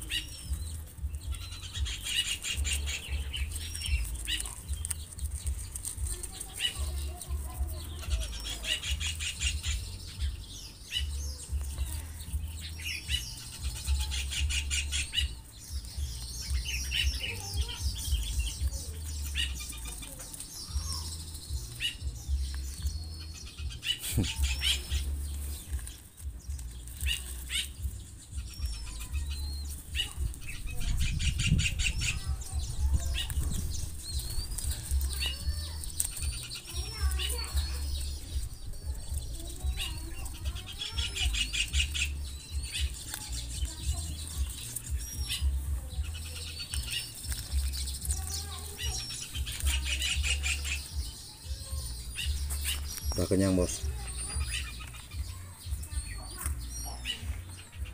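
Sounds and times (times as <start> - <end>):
birds fluttering wings: 0.0 - 57.9
small bird chirps: 0.0 - 57.9.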